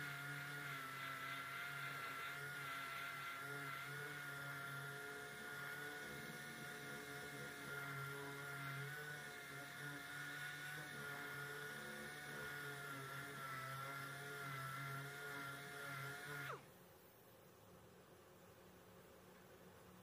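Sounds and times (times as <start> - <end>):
orbital sander whining: 0.0 - 16.7.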